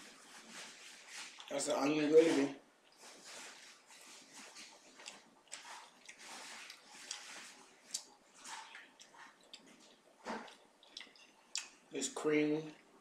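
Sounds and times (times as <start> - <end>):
person chewing food: 0.0 - 1.6, 2.8 - 11.9.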